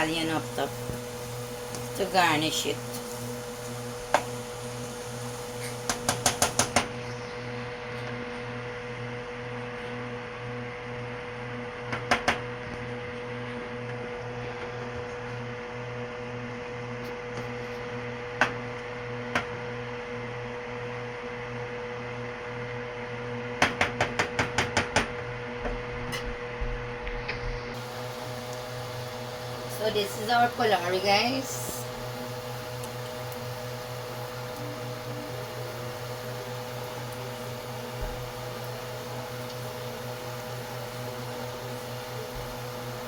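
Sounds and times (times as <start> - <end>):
kitchen appliance humming: 0.0 - 43.0.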